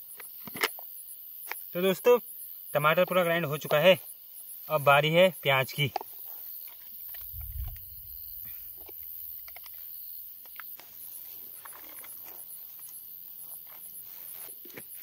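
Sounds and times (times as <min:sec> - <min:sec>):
high-pitched insect chirring: 0:00.0 - 0:15.0.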